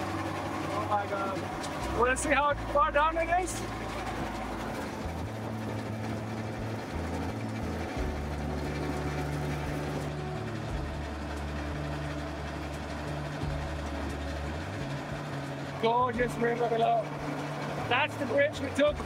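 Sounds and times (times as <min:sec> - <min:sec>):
cable car mechanical hum: 0:00.0 - 0:19.0.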